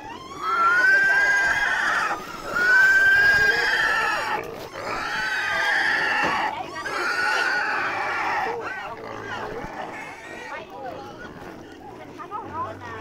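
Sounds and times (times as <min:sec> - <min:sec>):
pig squealing loudly: 0:00.0 - 0:11.7.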